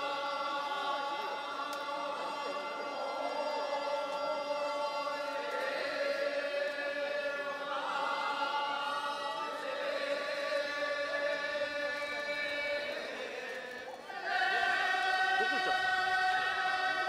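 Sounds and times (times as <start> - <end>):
voices chanting in held tones: 0.0 - 17.0.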